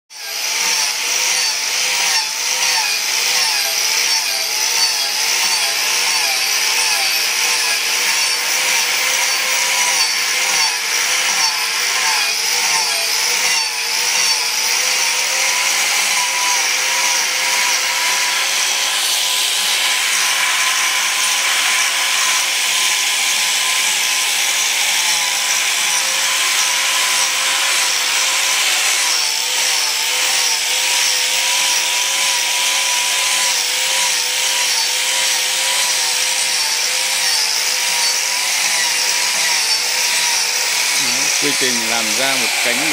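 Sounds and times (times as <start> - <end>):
electric grinder motor whine: 0.2 - 42.9
sanding disc rasping on wood: 0.2 - 42.9.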